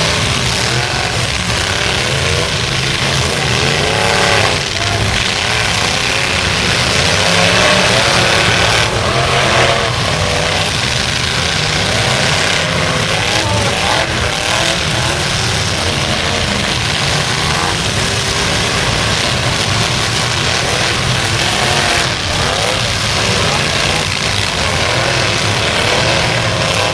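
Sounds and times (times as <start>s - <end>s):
pickup truck engines revving: 0.0s - 26.9s.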